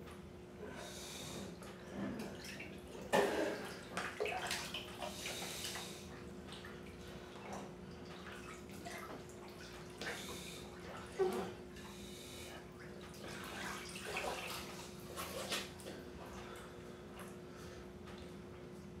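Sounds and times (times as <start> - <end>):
bathwater sloshing and splashing: 1.0 - 19.0.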